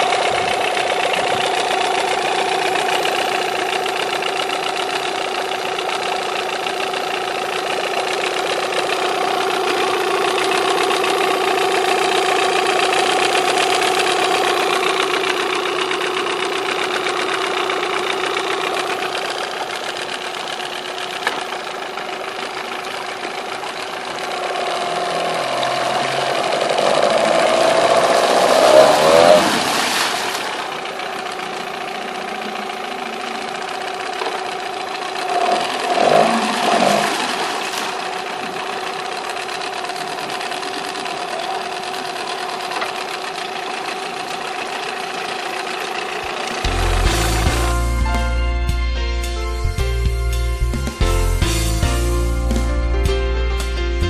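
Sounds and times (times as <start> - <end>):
propeller churning water: 0.0 - 47.7
outboard motor idling and revving: 0.0 - 48.6.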